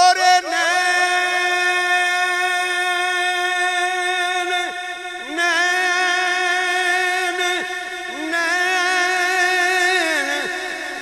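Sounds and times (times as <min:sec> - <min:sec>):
man singing long note with echo: 0:00.0 - 0:11.0.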